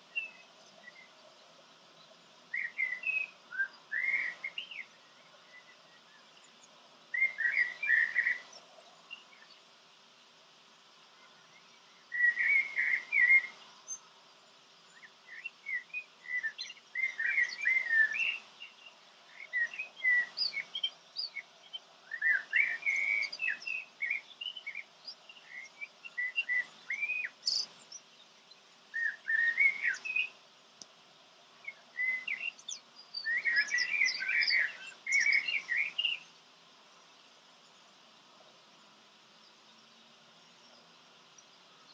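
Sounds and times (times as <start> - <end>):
songbird twittering: 0.0 - 9.7, 11.1 - 30.4, 31.5 - 36.4.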